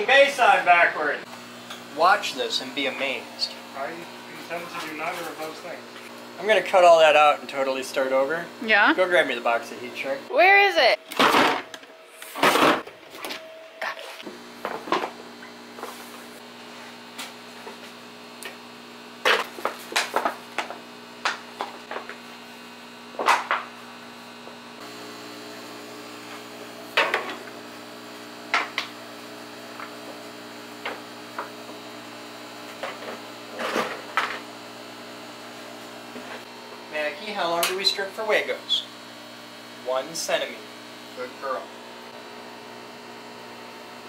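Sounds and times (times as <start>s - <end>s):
heat gun humming: 1.2s - 12.4s, 14.3s - 44.0s.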